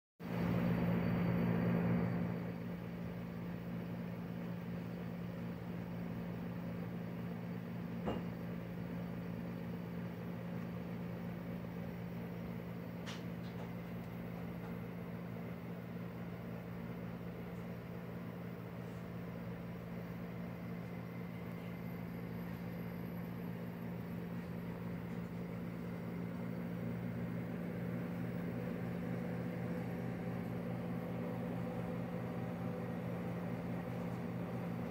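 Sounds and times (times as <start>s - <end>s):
turntable motor hum: 0.4s - 34.9s.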